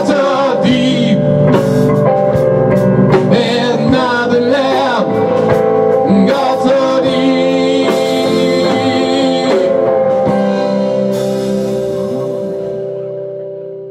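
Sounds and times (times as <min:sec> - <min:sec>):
bass guitar: 0:00.0 - 0:13.9
drum kit: 0:00.0 - 0:13.9
electric guitar: 0:00.0 - 0:13.9.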